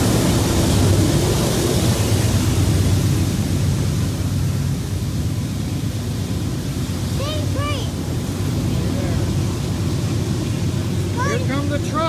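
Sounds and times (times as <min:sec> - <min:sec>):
freight train rumbling: 0:00.0 - 0:12.0.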